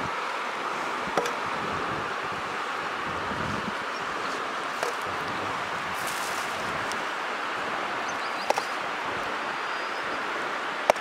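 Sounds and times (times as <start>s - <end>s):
wind hiss: 0.0s - 11.0s.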